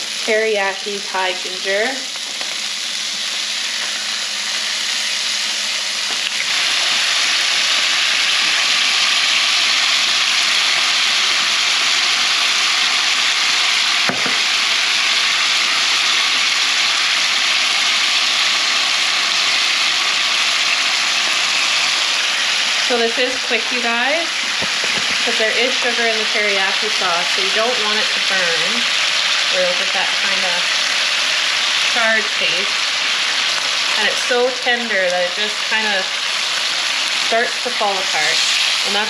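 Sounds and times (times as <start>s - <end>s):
fish sizzling in a skillet: 0.0s - 39.0s.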